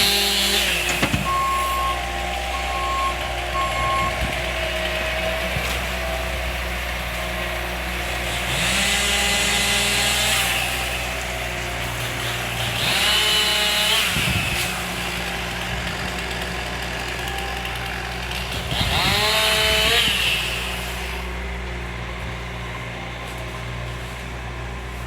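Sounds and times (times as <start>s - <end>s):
chainsaw revving: 0.0s - 23.2s
engine idling: 0.0s - 25.0s.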